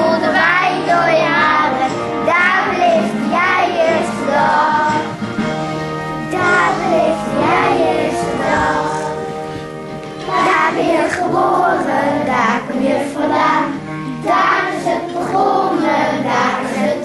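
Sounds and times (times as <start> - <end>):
children singing: 0.0 - 5.2, 6.2 - 17.0
instrumental accompaniment: 0.0 - 17.0.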